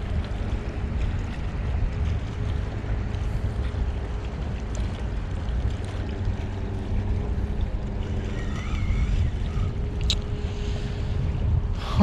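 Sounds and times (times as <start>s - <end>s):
water at shoreline: 0.0s - 12.0s
wind rumbling on microphone: 0.0s - 12.0s.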